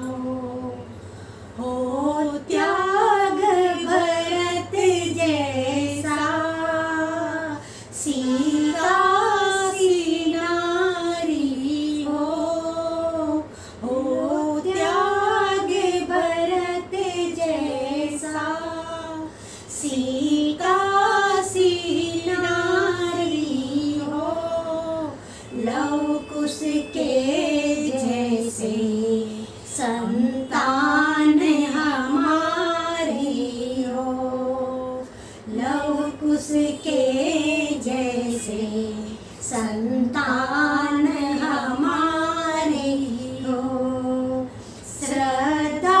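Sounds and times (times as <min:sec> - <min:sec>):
women singing devotional song: 0:00.0 - 0:46.0.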